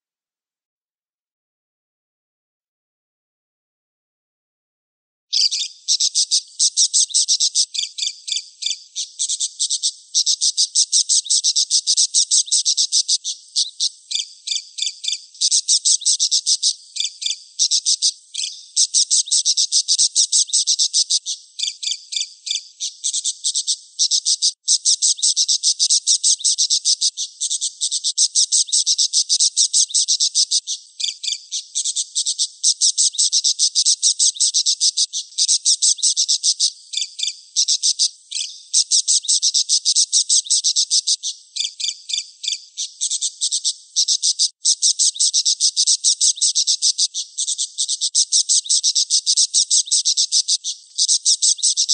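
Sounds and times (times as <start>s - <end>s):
budgerigar chattering and warbling: 5.3s - 51.9s.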